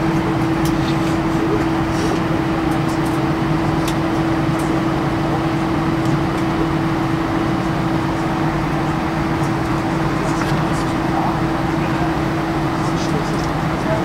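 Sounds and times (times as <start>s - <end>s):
aircraft cabin hum: 0.0s - 14.0s.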